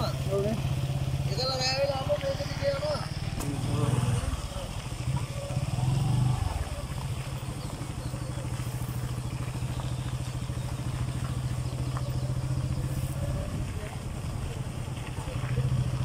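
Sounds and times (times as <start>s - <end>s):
motorcycle engine puttering: 0.0s - 16.0s.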